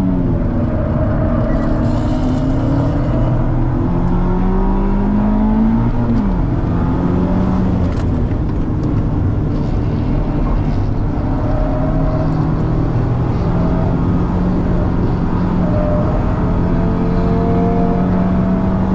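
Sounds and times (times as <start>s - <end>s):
race car engines at speed: 0.0s - 18.9s.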